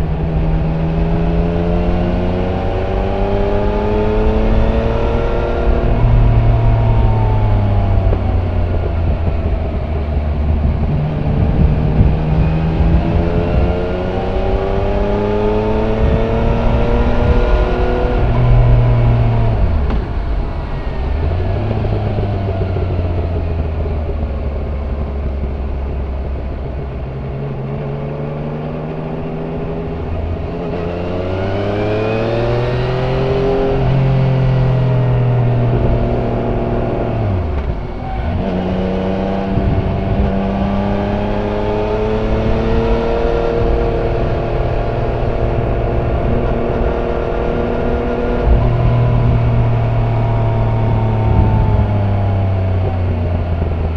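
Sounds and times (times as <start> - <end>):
motorcycle engine while riding: 0.0 - 53.9.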